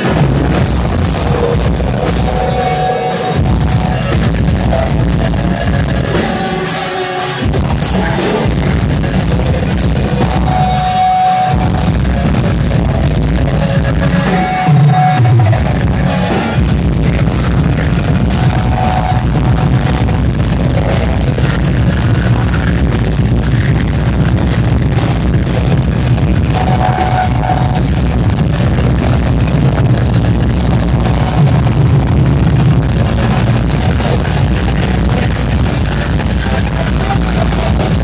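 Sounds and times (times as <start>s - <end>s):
distorted electric guitars: 0.0s - 38.0s
drums: 0.0s - 38.0s
live metal band playing: 0.0s - 38.0s.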